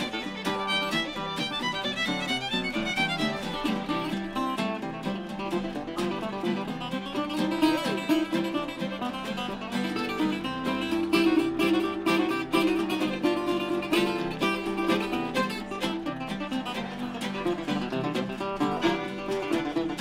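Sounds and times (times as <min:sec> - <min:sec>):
resonator guitar playing: 0:00.0 - 0:20.0
strummed acoustic rhythm guitar: 0:00.0 - 0:20.0.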